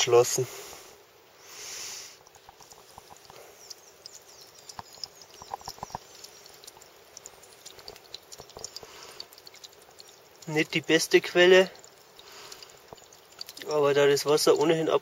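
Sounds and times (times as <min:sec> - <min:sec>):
water dripping into metal pot: 0:02.2 - 0:15.0.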